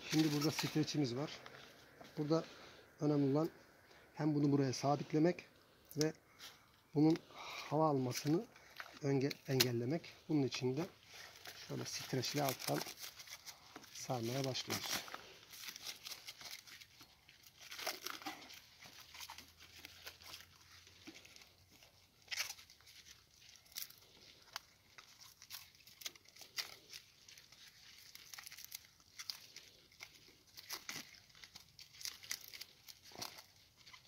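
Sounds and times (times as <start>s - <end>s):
plastic film crinkling: 0.0s - 2.0s, 7.0s - 34.0s.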